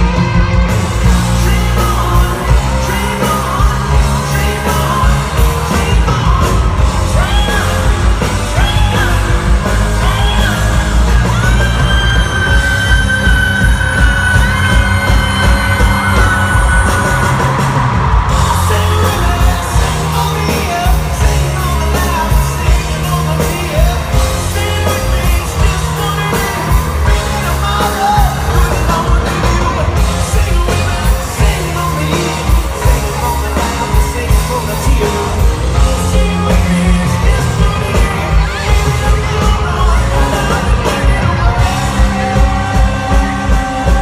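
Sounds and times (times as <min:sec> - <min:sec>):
live rock band: 0:00.0 - 0:44.0
man singing: 0:00.0 - 0:44.0.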